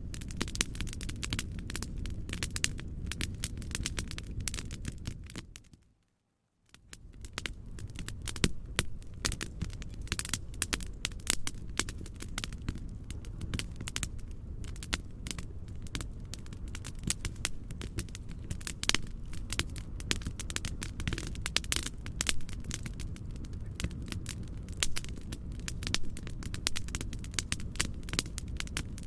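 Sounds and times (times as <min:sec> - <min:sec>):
fireplace crackling and popping: 0:00.0 - 0:29.0.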